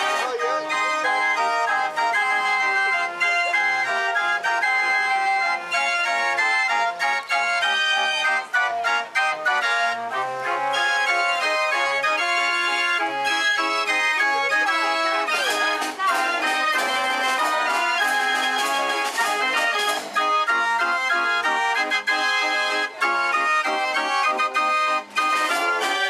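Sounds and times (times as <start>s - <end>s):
lively organ music: 0.0s - 26.0s.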